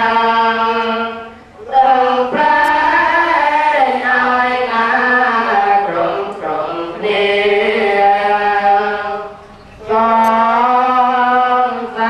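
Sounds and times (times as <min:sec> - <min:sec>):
congregation chanting in unison: 0:00.0 - 0:12.0.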